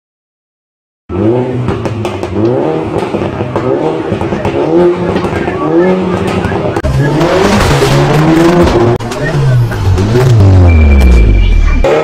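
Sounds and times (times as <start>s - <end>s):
car engine revving: 1.1s - 12.0s.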